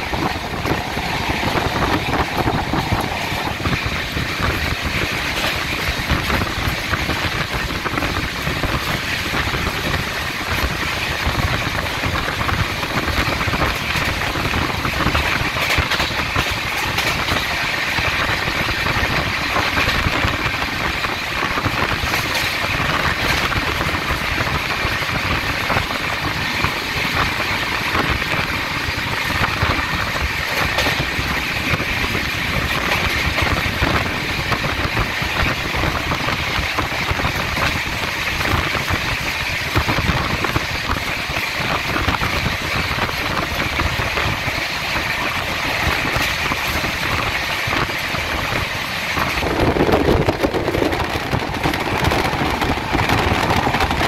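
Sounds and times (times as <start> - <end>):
train rumble and rattle: 0.0 - 54.0.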